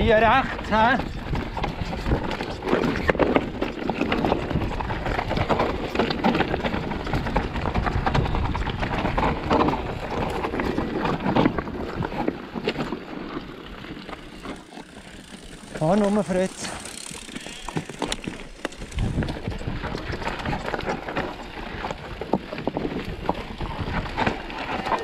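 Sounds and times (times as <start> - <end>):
wind on microphone: 0.0 - 13.0, 16.8 - 25.0
bike knocking and rattling: 0.0 - 25.0.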